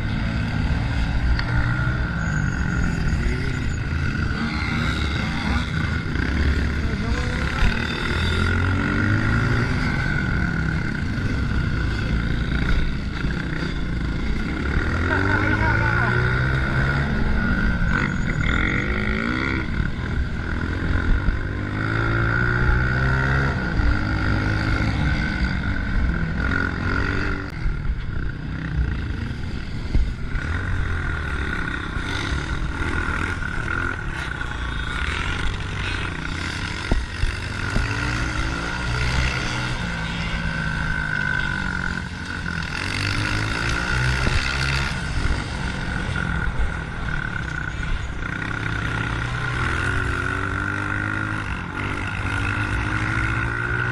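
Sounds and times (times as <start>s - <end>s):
dirt bike engine revving: 0.0s - 27.6s, 28.6s - 53.9s.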